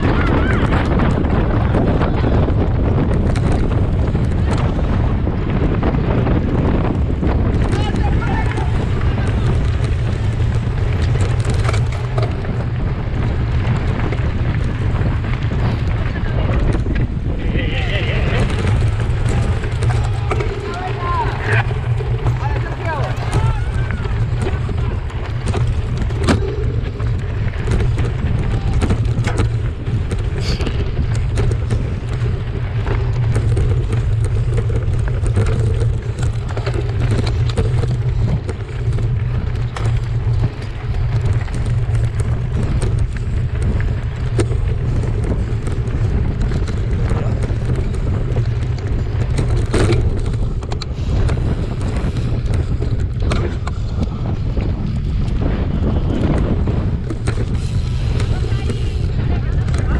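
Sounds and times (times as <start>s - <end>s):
bike rattling: 0.0s - 59.9s
tyres crunching on gravel: 0.0s - 59.9s
wind buffeting microphone: 0.0s - 59.9s.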